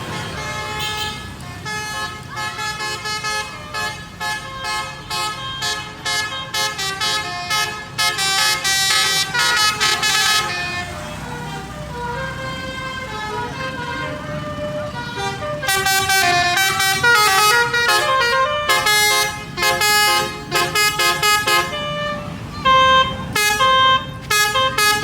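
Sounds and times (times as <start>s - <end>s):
bus musical horn melodies: 0.0s - 25.0s.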